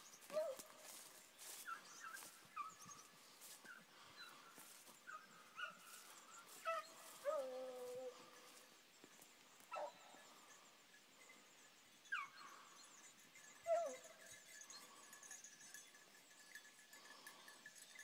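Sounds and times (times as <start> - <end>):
faint hounds baying and yelping: 0.2 - 8.8, 9.6 - 15.9.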